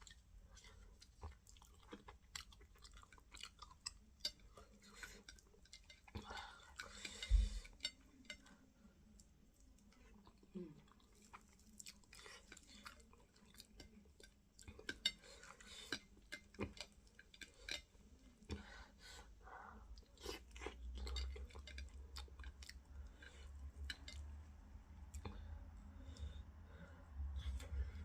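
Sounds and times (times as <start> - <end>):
chewing and lip smacking: 0.0 - 8.5, 9.1 - 18.6, 20.0 - 26.3.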